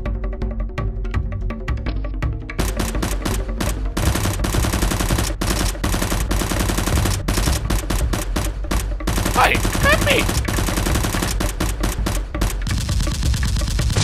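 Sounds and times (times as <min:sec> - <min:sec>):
automatic gunfire sound effects: 0:02.6 - 0:14.0.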